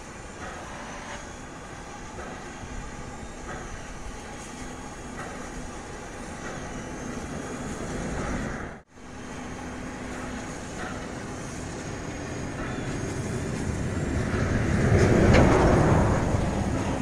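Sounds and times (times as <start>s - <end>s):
distant steam locomotive exhaust: 0.0s - 17.0s.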